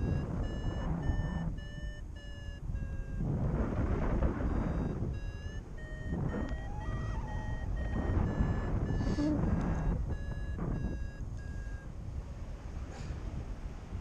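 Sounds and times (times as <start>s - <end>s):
variometer beeping: 0.0s - 12.1s
wind noise on microphone: 0.0s - 14.0s.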